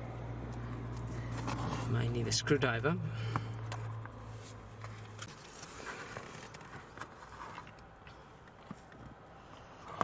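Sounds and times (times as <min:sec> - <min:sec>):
light rustling and scraping: 0:00.5 - 0:02.5, 0:03.2 - 0:10.0.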